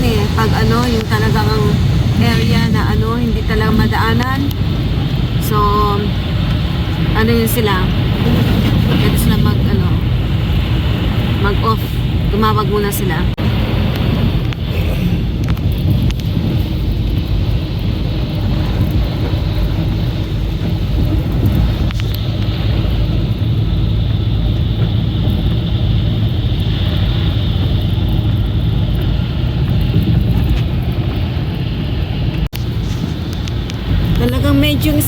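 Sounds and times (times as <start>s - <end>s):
low engine hum: 0.0s - 35.0s
tyres rushing on snowy road: 0.0s - 35.0s.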